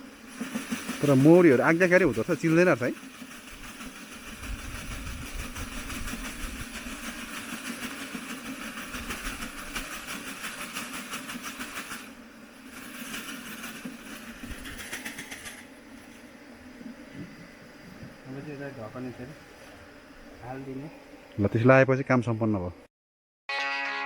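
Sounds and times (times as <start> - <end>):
hiss: 0.0 - 21.6
honeybees buzzing: 0.0 - 21.6.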